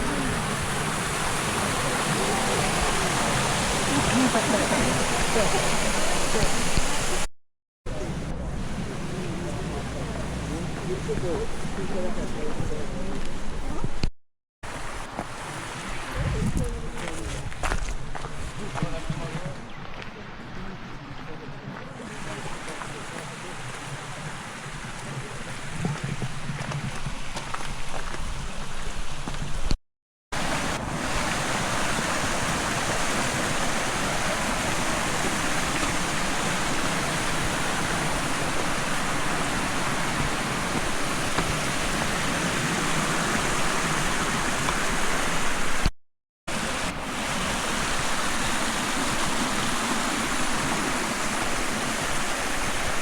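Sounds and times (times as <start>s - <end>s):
stream rushing: 0.0s - 7.3s, 7.9s - 13.8s, 14.6s - 45.9s, 46.5s - 53.0s.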